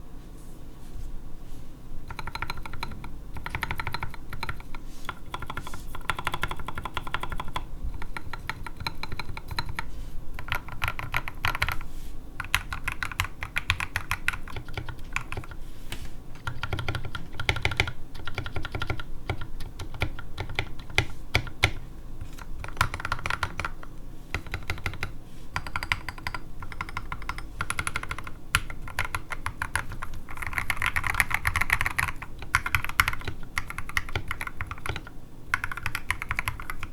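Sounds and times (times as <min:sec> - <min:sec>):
mechanical keyboard keystrokes: 0:02.1 - 0:11.8, 0:12.4 - 0:15.6, 0:16.4 - 0:36.9.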